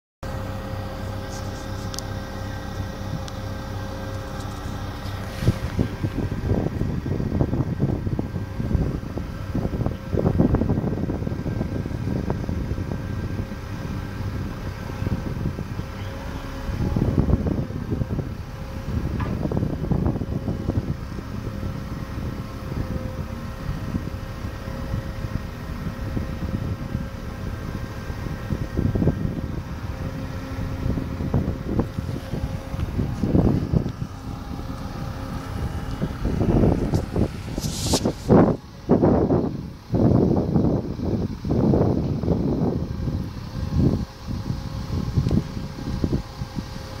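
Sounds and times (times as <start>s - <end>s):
crane engine and hydraulics whining: 0.2s - 47.0s
wind buffeting microphone: 0.2s - 47.0s.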